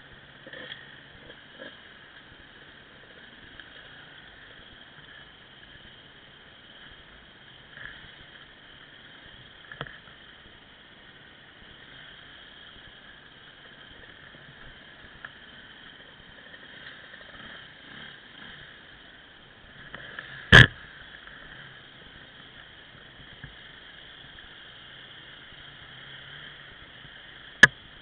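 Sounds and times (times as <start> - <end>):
dirt bike engine at low revs: 0.0 - 28.0.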